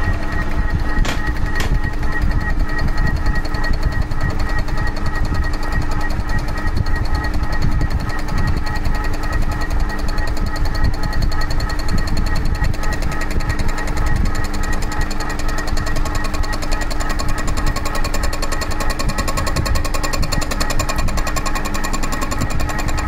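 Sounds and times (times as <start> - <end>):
cutter chattering on metal: 0.0 - 23.0
milling machine hum: 0.0 - 23.0.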